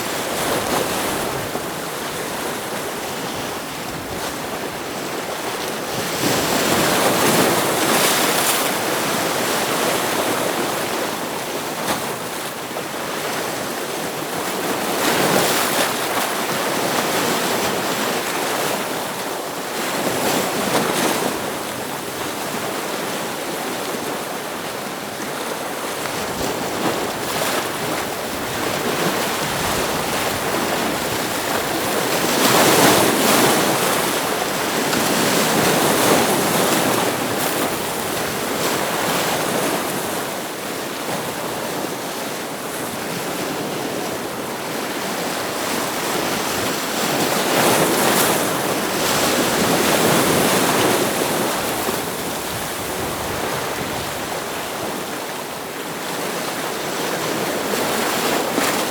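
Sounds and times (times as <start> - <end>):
ocean waves breaking on rocks: 0.0 - 58.9.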